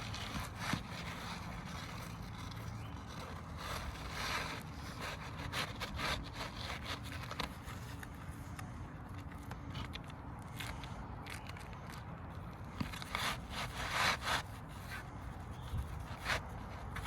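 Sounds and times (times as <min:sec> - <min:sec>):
roofing shingles scraping and rustling: 0:00.0 - 0:17.0.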